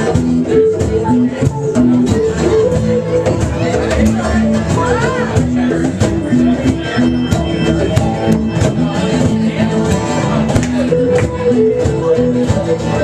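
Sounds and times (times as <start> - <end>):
live band playing: 0.0 - 13.0
plucked guitar: 0.0 - 13.0.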